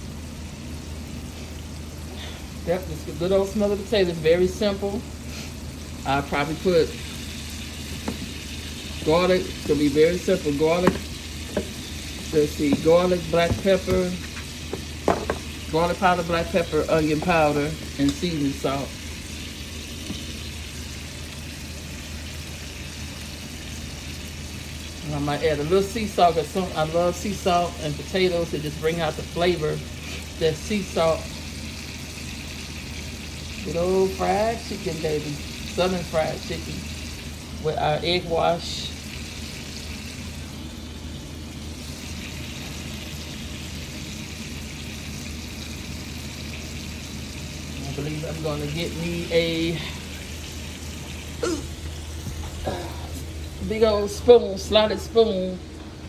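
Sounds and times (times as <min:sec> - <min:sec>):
food sizzling in hot oil: 0:00.0 - 0:55.8
low steady hum: 0:00.0 - 0:56.0.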